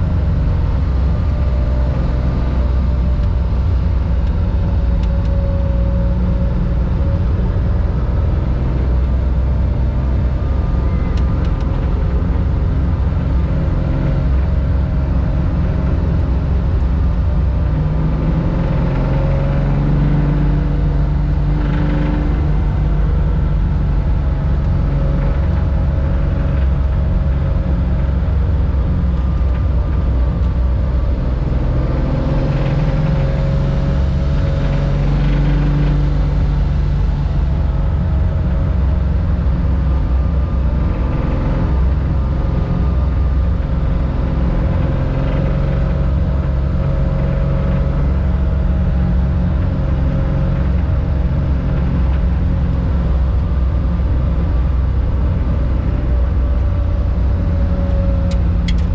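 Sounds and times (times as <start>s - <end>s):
car engine running loud: 0.0s - 58.9s.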